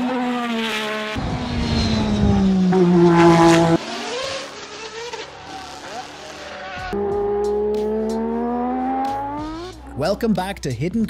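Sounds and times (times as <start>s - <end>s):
racing car engine revving: 0.0s - 10.0s.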